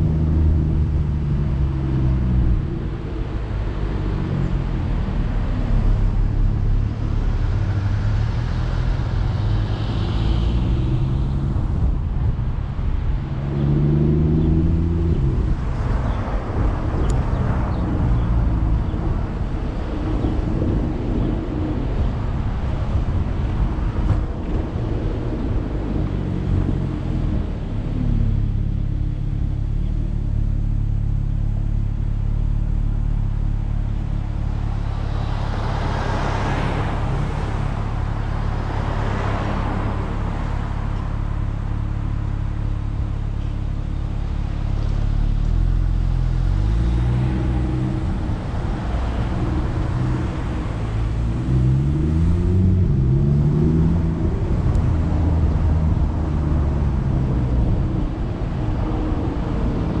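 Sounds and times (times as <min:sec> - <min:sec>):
car engine accelerating: 0:00.0 - 0:20.6, 0:21.8 - 1:00.0
road noise: 0:00.0 - 1:00.0.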